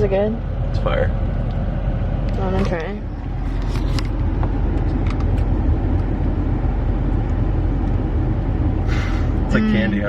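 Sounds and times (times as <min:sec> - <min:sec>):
air conditioning blasting: 0:00.0 - 0:10.0
car cabin rumble: 0:00.0 - 0:10.0.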